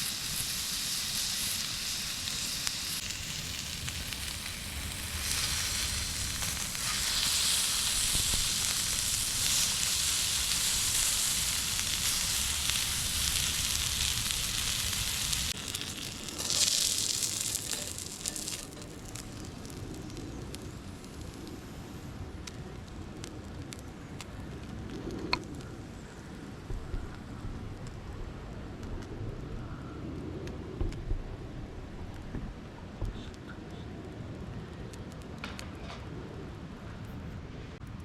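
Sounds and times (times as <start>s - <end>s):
meat sizzling over campfire: 0.0s - 31.0s.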